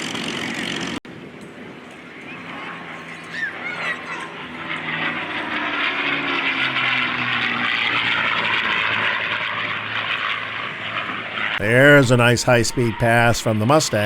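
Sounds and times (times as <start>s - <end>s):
propeller plane engine passing low: 0.0s - 14.0s.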